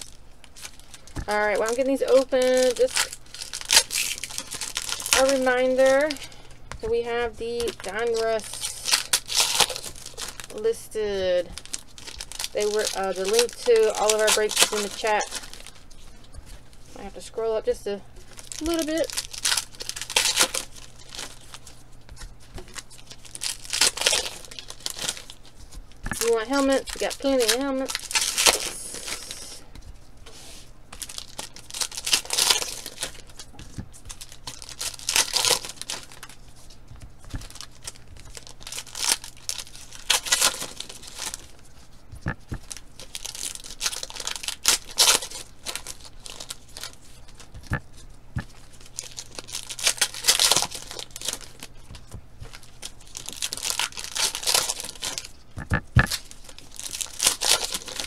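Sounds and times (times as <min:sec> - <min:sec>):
foil wrappers tearing and crinkling: 0:00.0 - 0:58.0.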